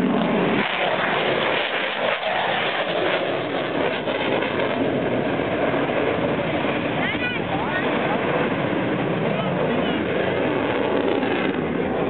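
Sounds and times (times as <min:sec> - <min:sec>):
jet engine flying past: 0:00.0 - 0:12.0.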